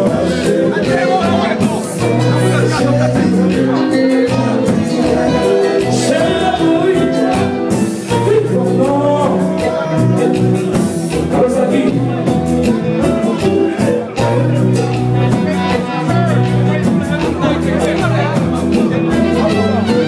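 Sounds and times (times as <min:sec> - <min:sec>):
person singing: 0:00.0 - 0:17.7
live band playing dance music: 0:00.0 - 0:20.0.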